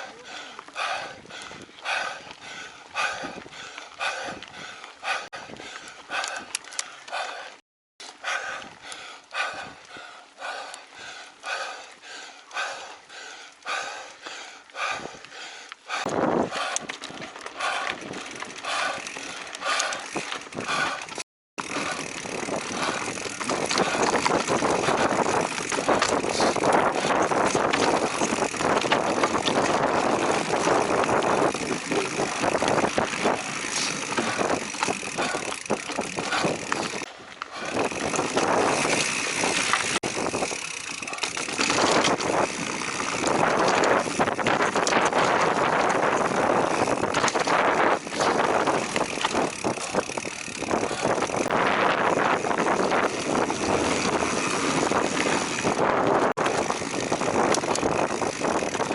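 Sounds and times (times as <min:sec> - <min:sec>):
mountain bike riding on dirt trail: 0:00.0 - 0:58.9.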